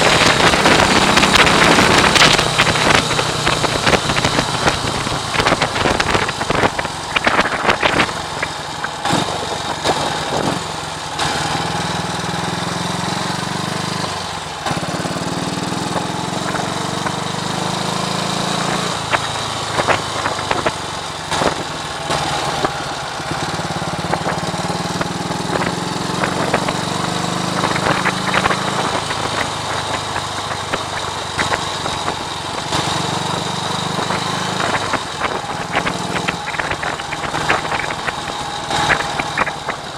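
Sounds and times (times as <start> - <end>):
wind buffeting microphone: 0.0 - 10.7, 14.8 - 39.9
motorcycle engine running: 0.0 - 39.9.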